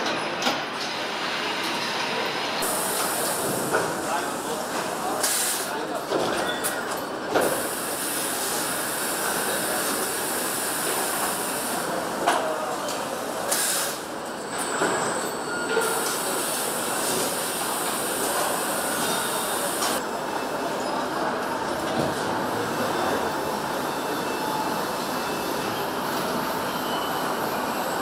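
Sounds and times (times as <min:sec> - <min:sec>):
factory machinery din and hiss: 0:00.0 - 0:28.0.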